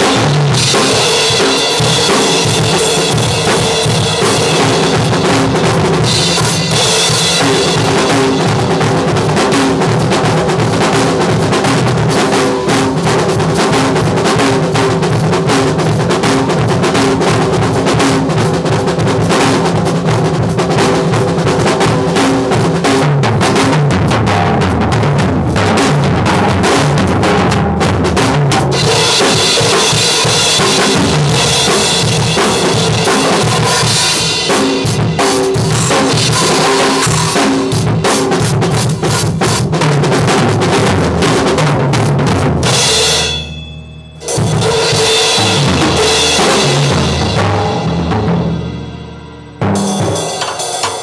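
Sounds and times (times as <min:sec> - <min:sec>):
fast drum kit playing: 0:00.0 - 0:51.0.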